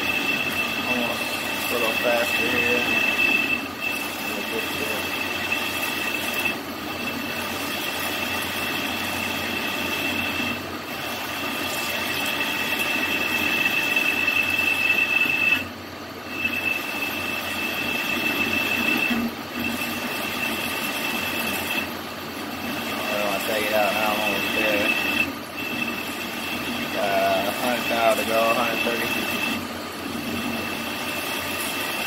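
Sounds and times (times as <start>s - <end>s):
high-pitched squeal of lathe cutting: 0.0s - 32.0s
lathe running: 0.0s - 32.0s.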